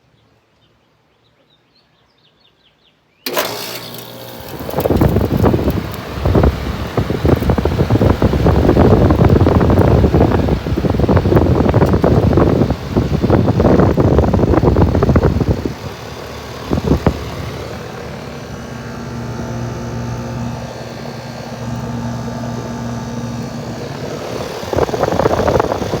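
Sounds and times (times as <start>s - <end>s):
air conditioner humming: 3.3s - 26.0s.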